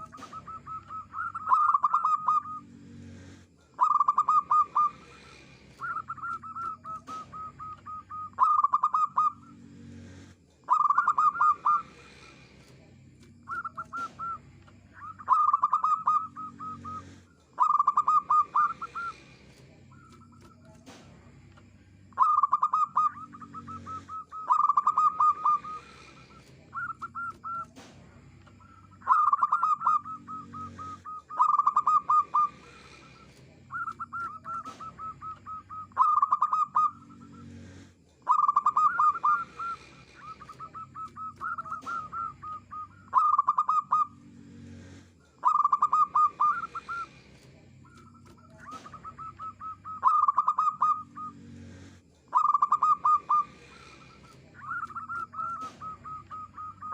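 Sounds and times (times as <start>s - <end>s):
dove cooing: 0.0s - 21.2s, 22.1s - 56.9s.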